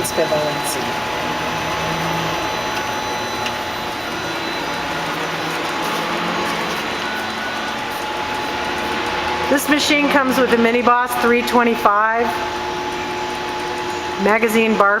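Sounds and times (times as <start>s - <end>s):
lathe whirring: 0.0s - 14.9s
high machine whine: 0.0s - 15.0s.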